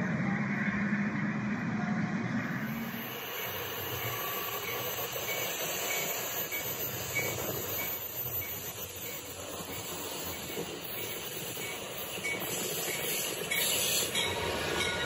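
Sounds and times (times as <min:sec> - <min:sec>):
toy train whirring on track: 0:02.6 - 0:15.0.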